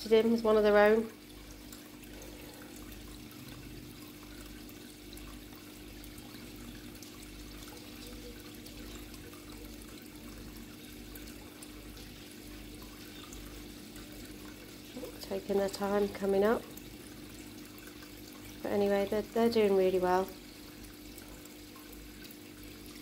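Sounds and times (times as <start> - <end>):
water trickling into a pond: 0.0 - 23.0.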